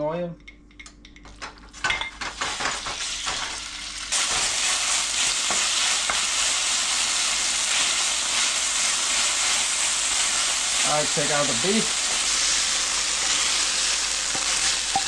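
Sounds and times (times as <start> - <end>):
meat sizzling in hot oil: 2.2 - 15.0.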